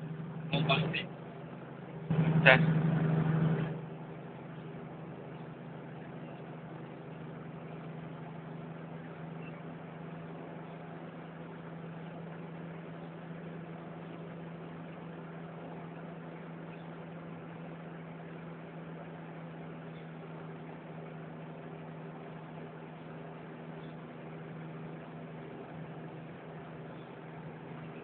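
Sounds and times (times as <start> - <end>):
car engine hum: 0.0 - 28.0
road and wind noise: 0.0 - 28.0.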